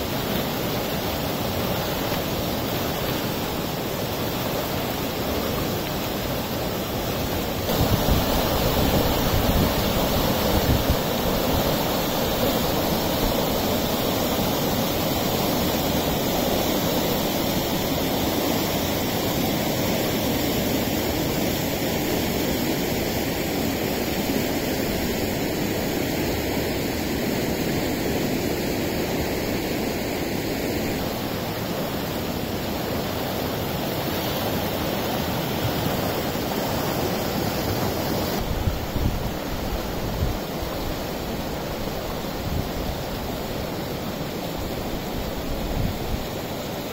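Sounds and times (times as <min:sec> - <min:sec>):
floodwater rushing and churning: 0:00.0 - 0:46.9.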